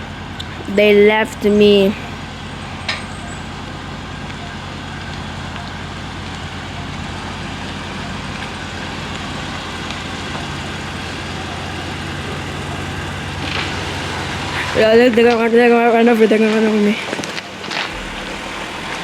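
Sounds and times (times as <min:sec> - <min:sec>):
vehicle engine idling: 0:00.0 - 0:15.8, 0:17.9 - 0:19.0.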